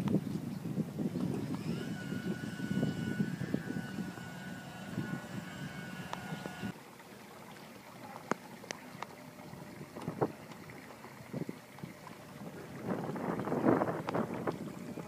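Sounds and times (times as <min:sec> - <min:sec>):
wind buffeting microphone: 0:00.0 - 0:06.8, 0:09.5 - 0:15.0.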